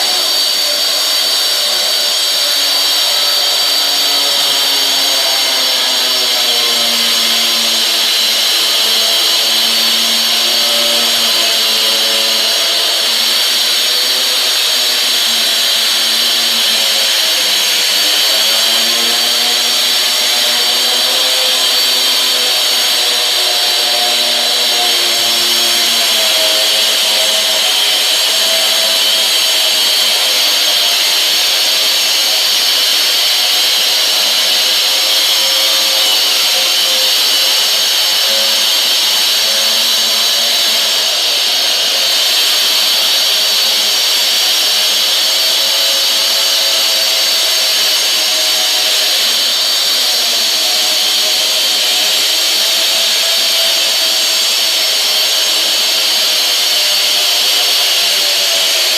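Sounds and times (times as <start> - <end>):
electric wall chaser running: 0.0 - 58.9
vacuum cleaner running: 0.0 - 58.9.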